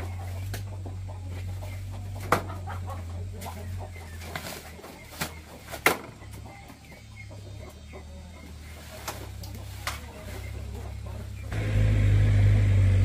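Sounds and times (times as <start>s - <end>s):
chickens clucking: 0.0s - 11.7s.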